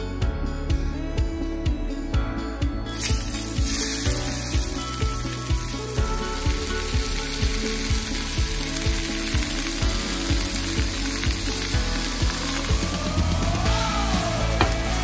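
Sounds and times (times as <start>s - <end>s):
background music with steady beat: 0.0s - 15.0s
onions and peppers sizzling in a pan: 2.9s - 15.0s.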